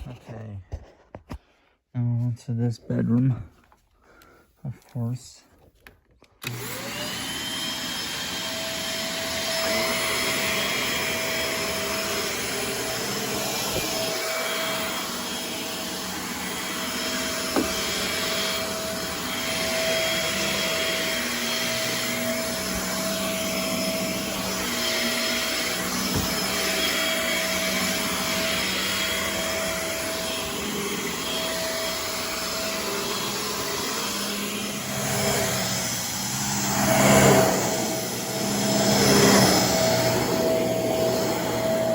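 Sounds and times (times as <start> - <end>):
vacuum cleaner running: 6.4 - 41.9.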